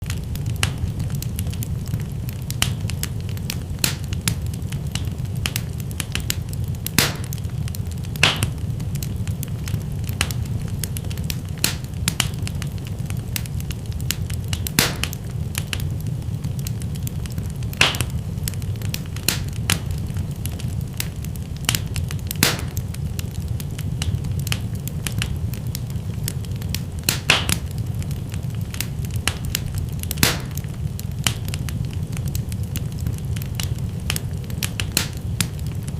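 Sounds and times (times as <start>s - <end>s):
fire crackling and popping: 0.0s - 35.9s.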